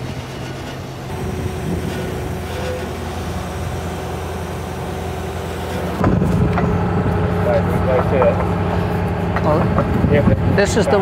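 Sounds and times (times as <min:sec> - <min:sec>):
truck engine running steadily: 0:00.0 - 0:11.0.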